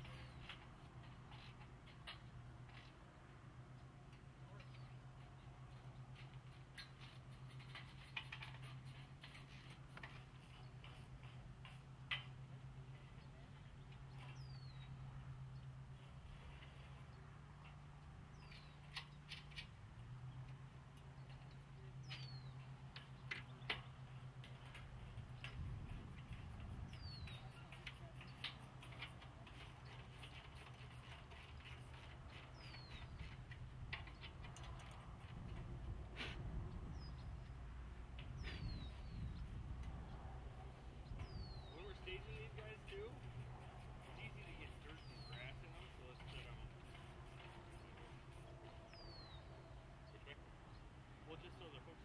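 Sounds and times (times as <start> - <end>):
metal frames clicking on rails: 0.0 - 15.6, 16.4 - 50.3.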